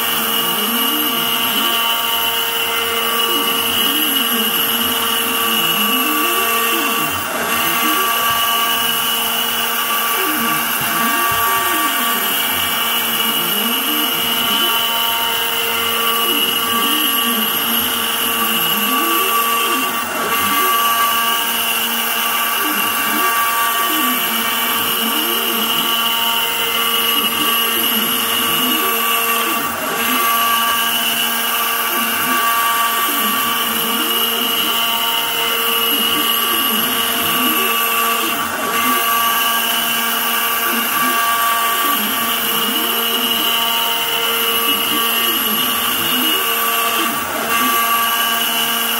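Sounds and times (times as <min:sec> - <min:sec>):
router spindle whine: 0:00.0 - 0:48.9
stepper motors rising and falling: 0:00.0 - 0:48.9.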